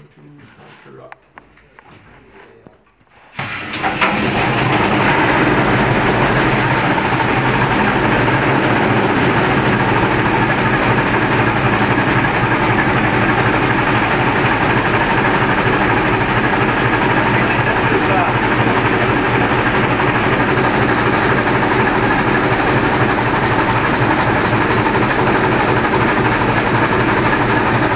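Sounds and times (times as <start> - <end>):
oil engine running steadily: 3.4 - 27.9.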